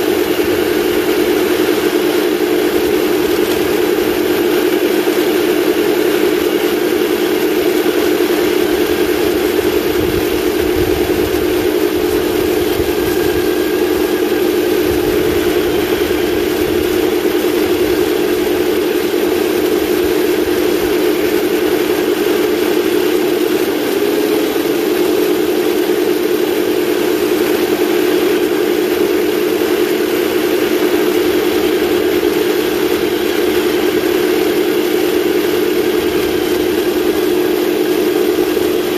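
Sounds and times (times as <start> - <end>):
toy tank engine humming: 0.0 - 38.9.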